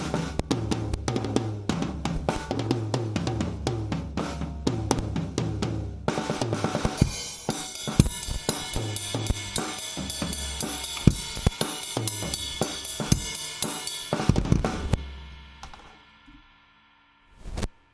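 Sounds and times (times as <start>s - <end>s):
drum kit groove: 0.0s - 16.2s.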